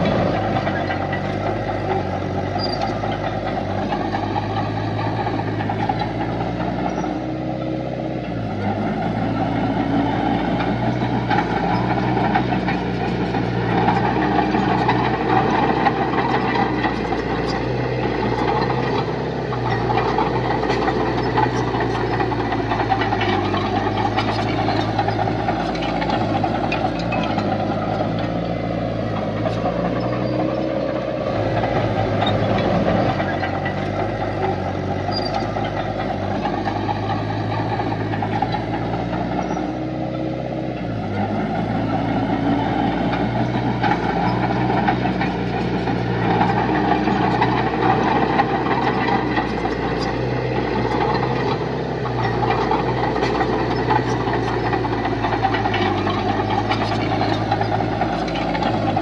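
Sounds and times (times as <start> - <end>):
diesel construction machinery running: 0.0 - 59.0.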